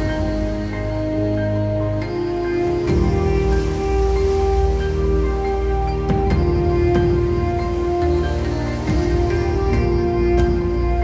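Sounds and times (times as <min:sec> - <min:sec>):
music with long held tones: 0:00.0 - 0:11.0.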